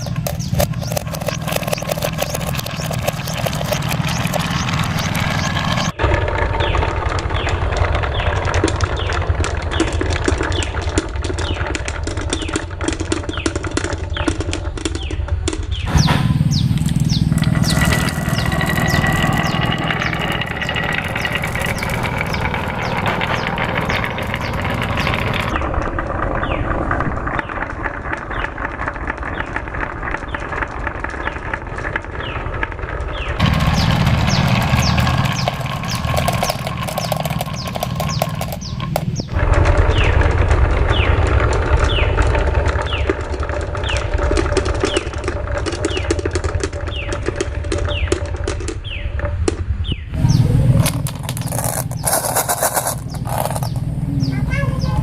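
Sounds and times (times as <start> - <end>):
marbles rattling down wooden run: 0.0 - 15.1, 16.7 - 48.8, 50.8 - 53.8.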